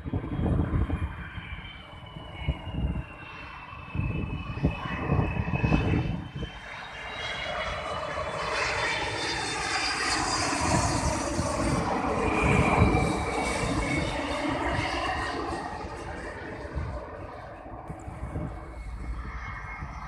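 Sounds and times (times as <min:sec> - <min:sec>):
jet airliner engines rumble and whine: 0:00.0 - 0:20.0.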